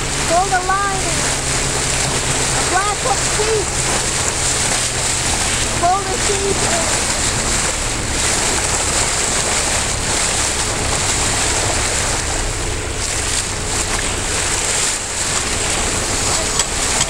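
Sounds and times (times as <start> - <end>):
choppy water: 0.0 - 17.0
wind buffeting microphone: 0.0 - 17.0.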